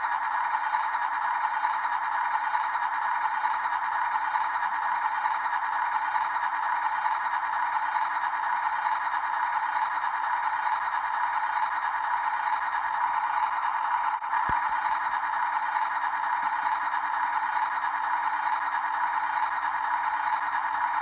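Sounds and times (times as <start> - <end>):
toy truck motors whirring: 1.2 - 21.0.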